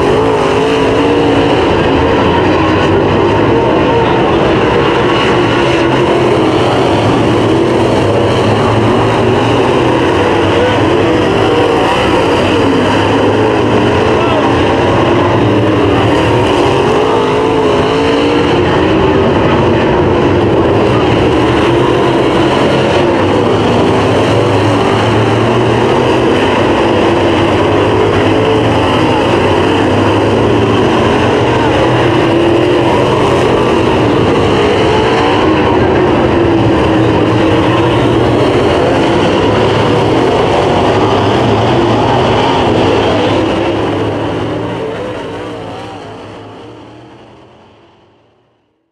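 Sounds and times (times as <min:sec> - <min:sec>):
race car engines running hard: 0:00.0 - 0:48.9.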